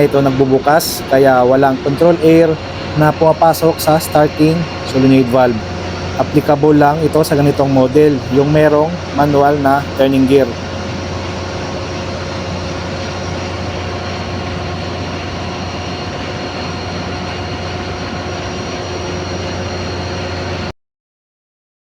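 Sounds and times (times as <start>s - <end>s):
machinery drone: 0.0s - 20.7s
whining tones: 0.0s - 20.7s.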